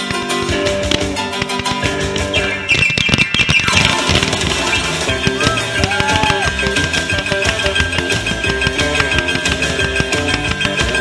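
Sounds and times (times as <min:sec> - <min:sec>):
fireworks popping: 0:00.0 - 0:11.0
loud music playing: 0:00.0 - 0:11.0.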